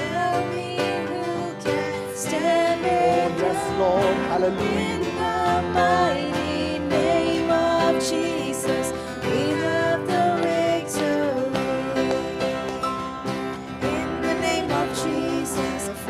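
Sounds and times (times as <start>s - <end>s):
acoustic guitar: 0.0s - 16.0s
keyboard: 0.0s - 16.0s
voices singing worship song: 0.0s - 16.0s.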